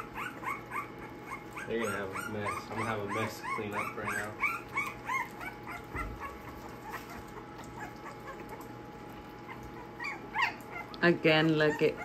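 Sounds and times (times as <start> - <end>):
puppies whimpering and yipping: 0.0 - 12.0.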